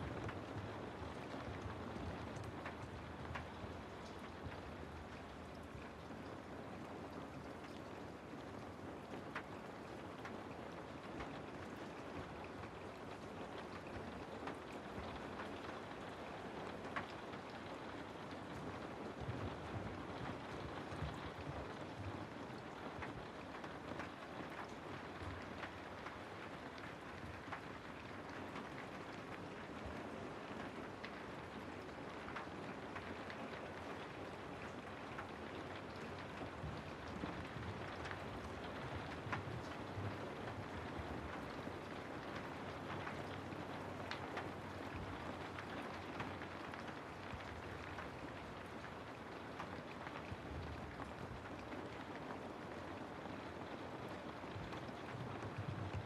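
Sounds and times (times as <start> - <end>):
rain falling through trees: 0.0 - 56.0.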